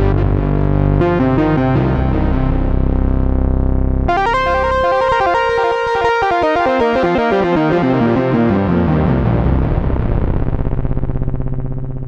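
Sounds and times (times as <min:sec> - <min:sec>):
fast plucked synthesizer notes: 0:00.0 - 0:12.0
sustained low synthesizer chord: 0:00.0 - 0:12.0.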